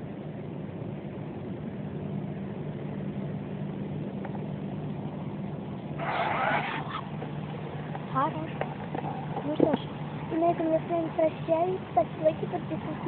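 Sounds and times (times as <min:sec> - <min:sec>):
distant engine humming: 0:00.0 - 0:13.0.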